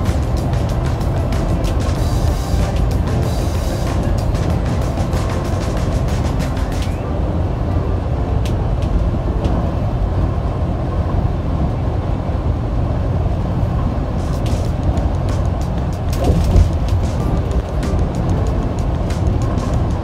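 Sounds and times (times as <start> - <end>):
bus road and engine rumble: 0.0 - 20.0.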